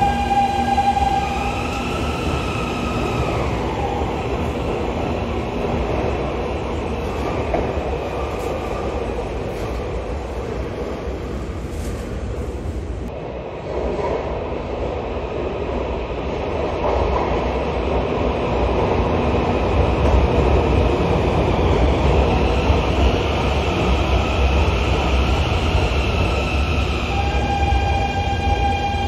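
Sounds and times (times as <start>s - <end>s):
metro train rumbling on track: 0.0s - 29.0s.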